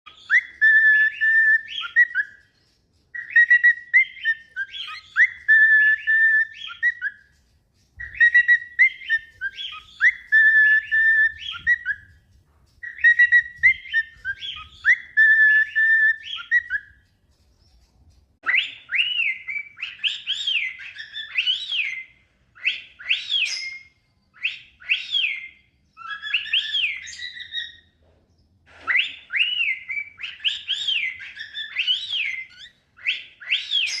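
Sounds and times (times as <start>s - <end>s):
cockatiels whistling: 0.1s - 7.4s, 8.0s - 12.2s, 12.8s - 17.0s, 18.4s - 27.9s, 28.9s - 34.0s.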